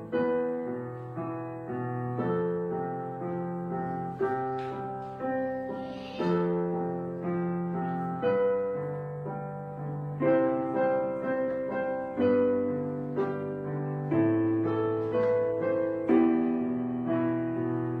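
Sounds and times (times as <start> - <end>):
slow gentle piano music: 0.0 - 18.0.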